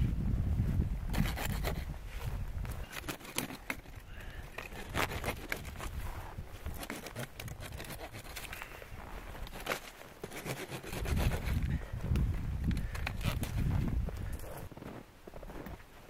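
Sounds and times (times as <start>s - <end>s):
wind rumble on microphone: 0.0s - 9.6s, 10.8s - 15.8s
crunches snaps and scrapes in snow: 1.1s - 16.0s.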